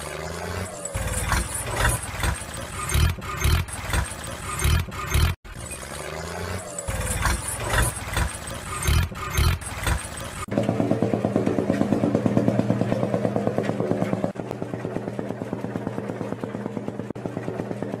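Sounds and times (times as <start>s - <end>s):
tractor diesel engine putter: 0.4s - 18.0s.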